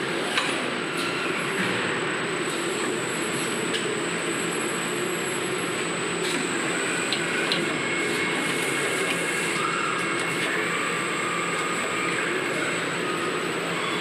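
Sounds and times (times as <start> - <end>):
industrial machinery hum: 0.0 - 14.0.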